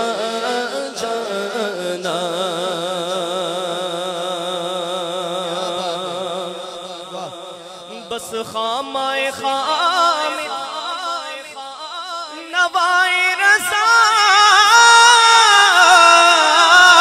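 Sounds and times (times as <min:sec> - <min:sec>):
man singing a devotional hymn: 0:00.0 - 0:17.0.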